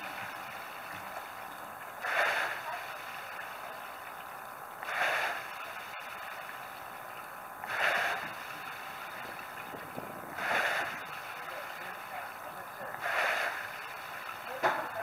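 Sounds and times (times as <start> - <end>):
water swooshing in rowing machine: 0.0 - 15.0.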